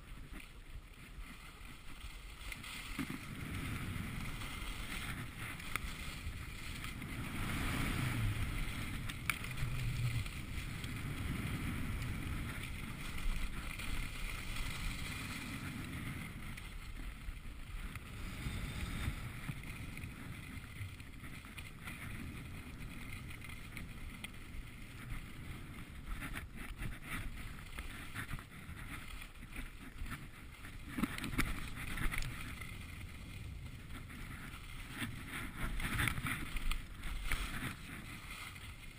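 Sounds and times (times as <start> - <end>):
skis scraping over snow: 0.0 - 38.9
wind rumbling on microphone: 0.0 - 38.9.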